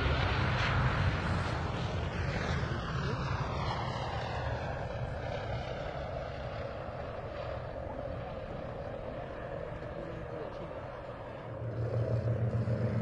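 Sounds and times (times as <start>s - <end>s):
propeller plane engines passing: 0.0s - 13.0s.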